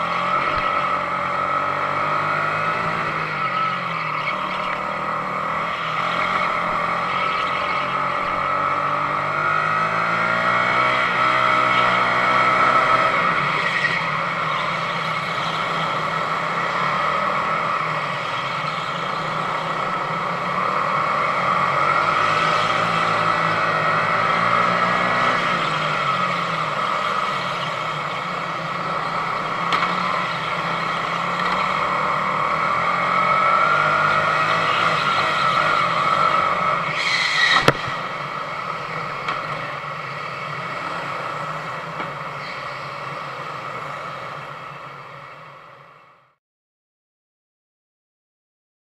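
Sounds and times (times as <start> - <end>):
go-kart engine accelerating: 0.0 - 46.0.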